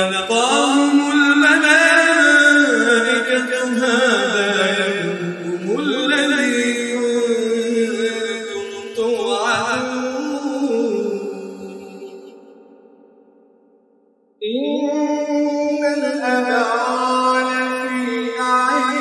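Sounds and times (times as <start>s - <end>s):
man reciting in melodic chant: 0.0s - 12.4s, 14.4s - 19.0s.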